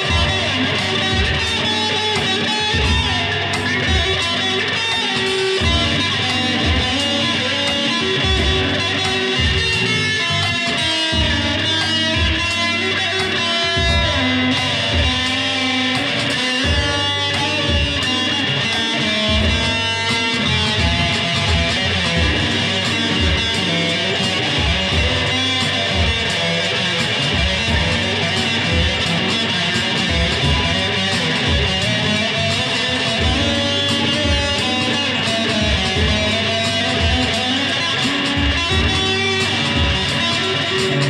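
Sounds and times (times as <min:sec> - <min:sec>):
electric guitar playing: 0:00.0 - 0:41.0.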